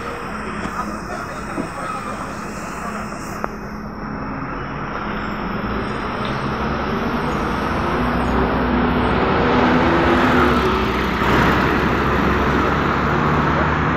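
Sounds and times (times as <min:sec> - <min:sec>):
diesel bus accelerating: 0:00.0 - 0:13.9
road noise: 0:00.0 - 0:13.9.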